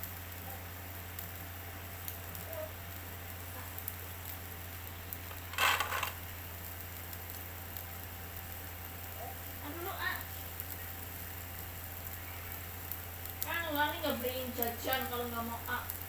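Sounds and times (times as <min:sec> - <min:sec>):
grill hiss: 0:00.0 - 0:16.0
meat grilling over charcoal: 0:00.0 - 0:16.0.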